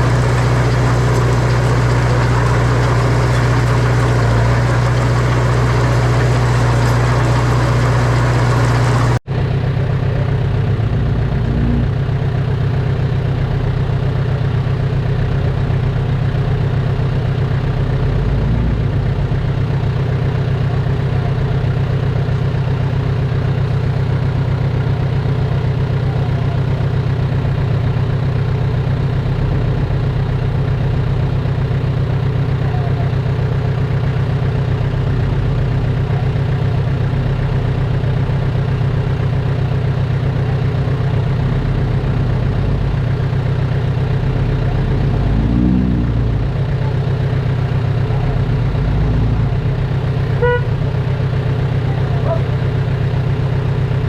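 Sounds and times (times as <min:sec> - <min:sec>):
heavy diesel engine rumbling: 0:00.0 - 0:54.0.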